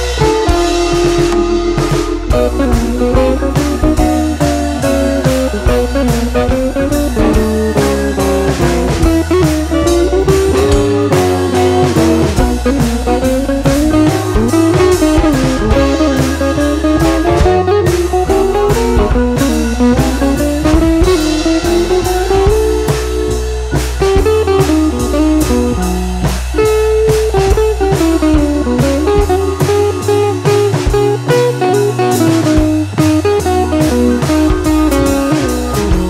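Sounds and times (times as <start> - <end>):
drum kit beat: 0.0 - 36.0
guitar: 0.0 - 36.0.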